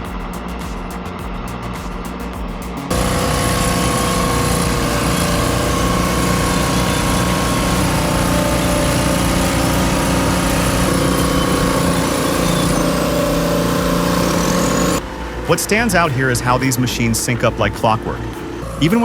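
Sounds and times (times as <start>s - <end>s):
high-pitched whine: 0.0s - 19.0s
heavy machine engine running: 2.9s - 19.0s.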